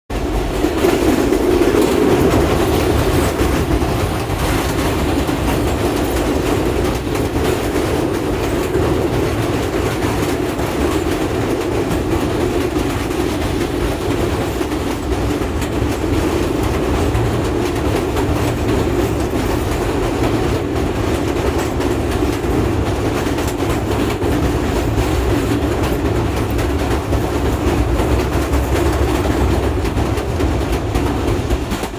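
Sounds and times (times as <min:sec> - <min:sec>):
clickety-clack of rail joints: 0:00.1 - 0:31.9
train rumbling over bridge: 0:00.1 - 0:31.9.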